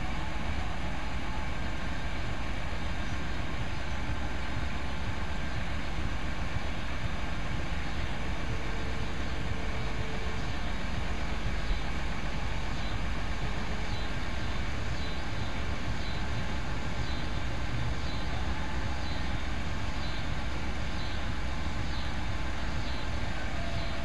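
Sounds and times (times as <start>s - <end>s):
van engine idling: 0.0s - 24.0s.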